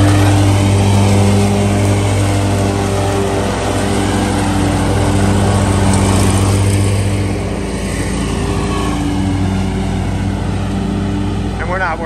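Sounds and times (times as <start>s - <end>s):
mower engine droning: 0.0s - 12.0s.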